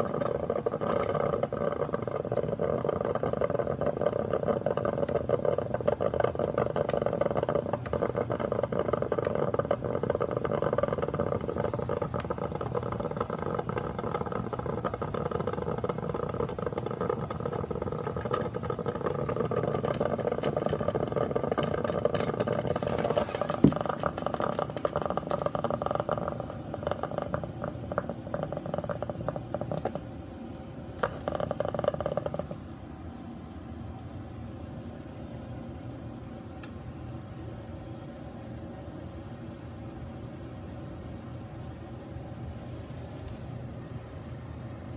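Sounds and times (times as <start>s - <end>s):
coffee maker gurgling and sputtering: 0.0s - 44.9s.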